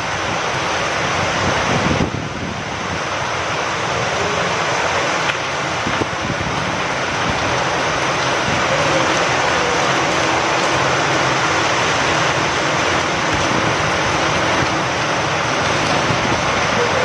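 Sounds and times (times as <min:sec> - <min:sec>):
heavy rain with wind: 0:00.0 - 0:17.0.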